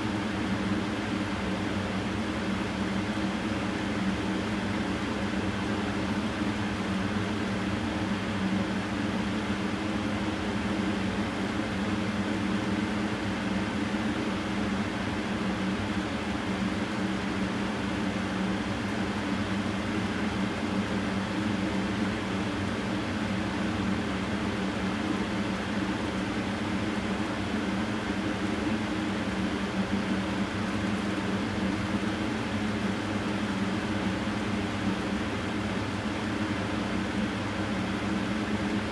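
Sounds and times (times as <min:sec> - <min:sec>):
mechanical hum and whir: 0:00.0 - 0:38.9.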